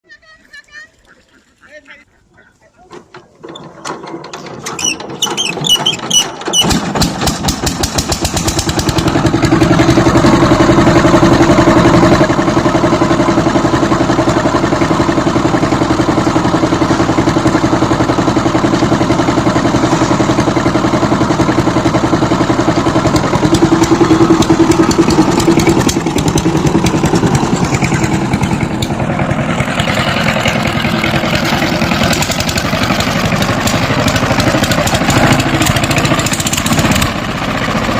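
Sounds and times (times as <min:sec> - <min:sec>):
engine cranking and running: 0:02.8 - 0:37.9.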